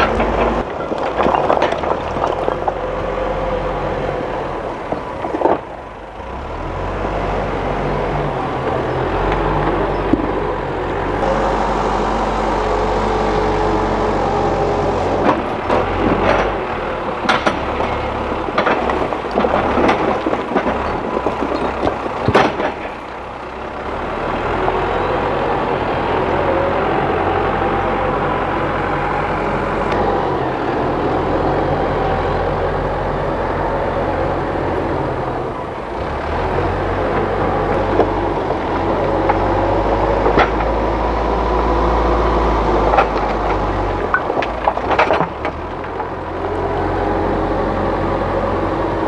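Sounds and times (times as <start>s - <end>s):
diesel engine under load: 0.0s - 49.0s.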